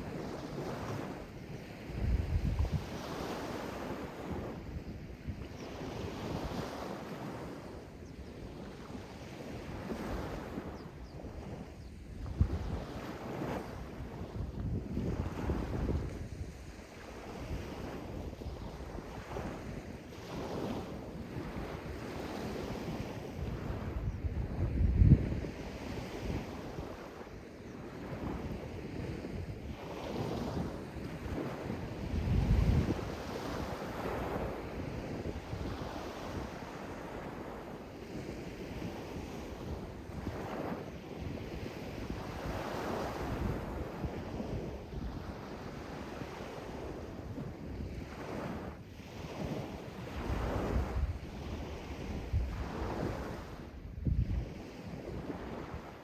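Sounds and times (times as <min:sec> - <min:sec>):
wind buffeting microphone: 0:00.0 - 0:07.7, 0:08.6 - 0:56.0.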